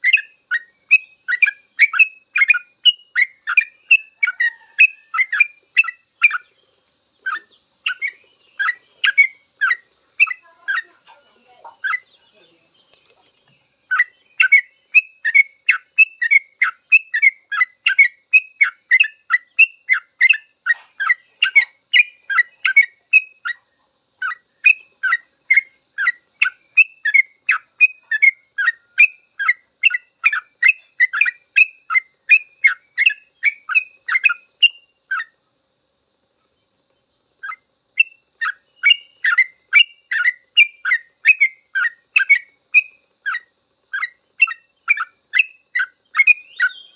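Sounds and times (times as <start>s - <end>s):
bulbul chirping song: 0.0s - 46.9s.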